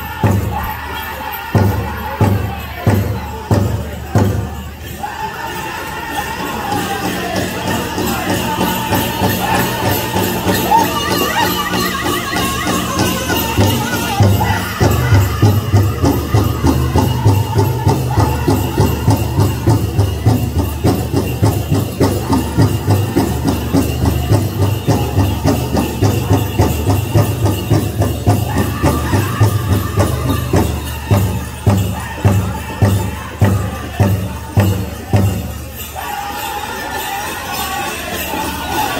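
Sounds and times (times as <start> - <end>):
high-pitched group singing: 0.0 - 38.9.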